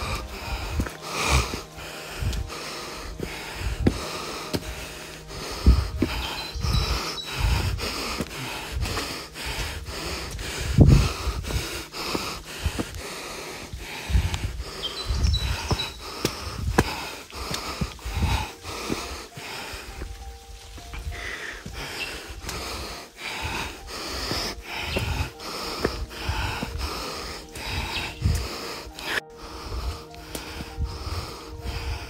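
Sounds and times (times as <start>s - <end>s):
footsteps: 0.0s - 32.0s
person breathing hard: 0.0s - 32.0s.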